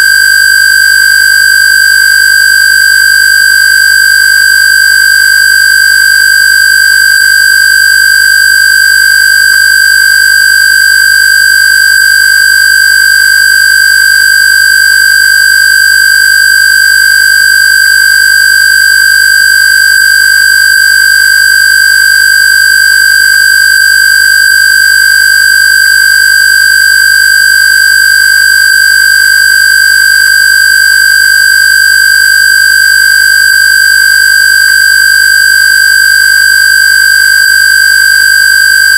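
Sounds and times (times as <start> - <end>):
steady high square-wave tone: 0.0 - 38.9.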